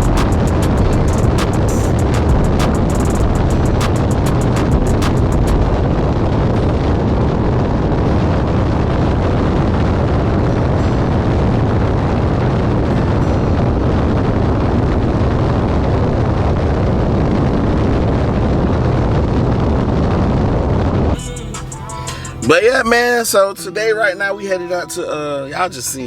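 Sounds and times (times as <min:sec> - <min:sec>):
deep car exhaust rumble: 0:00.0 - 0:22.7.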